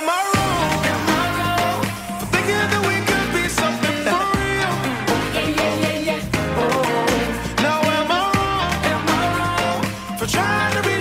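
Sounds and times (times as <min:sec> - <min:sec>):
song with bending melody: 0:00.0 - 0:11.0
steady bass: 0:00.4 - 0:11.0.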